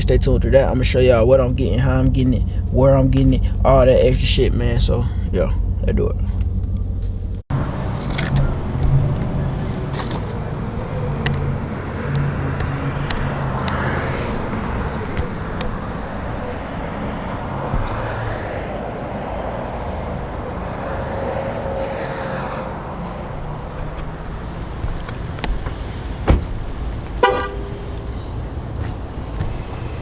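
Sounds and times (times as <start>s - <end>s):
car engine and road noise: 0.0s - 30.0s
vehicles passing: 0.0s - 30.0s.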